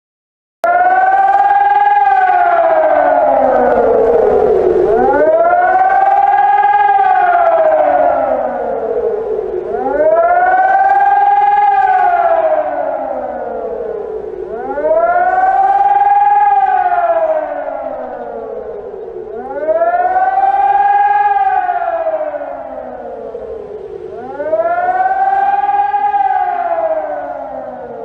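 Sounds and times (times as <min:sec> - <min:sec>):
civil defense siren wailing: 0:00.6 - 0:28.0.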